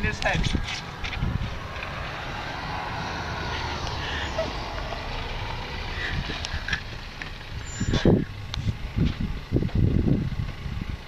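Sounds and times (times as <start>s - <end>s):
van engine rumbling: 0.0s - 11.0s.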